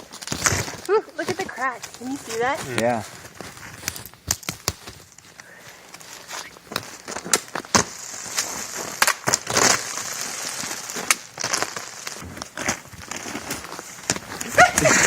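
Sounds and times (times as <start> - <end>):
icy snow crunching and cracking: 0.0 - 15.0.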